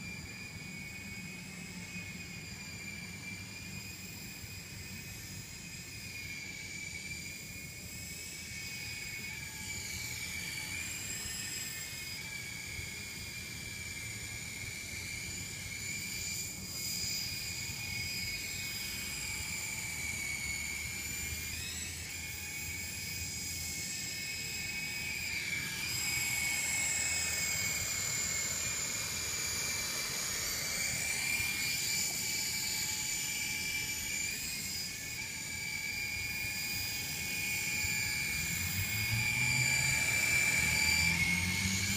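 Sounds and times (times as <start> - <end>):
toy helicopter motor whine: 0.0 - 41.9.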